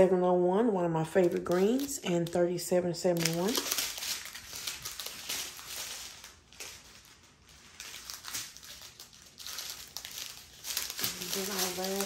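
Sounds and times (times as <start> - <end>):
plastic bags crinkling and rustling: 1.2 - 12.0.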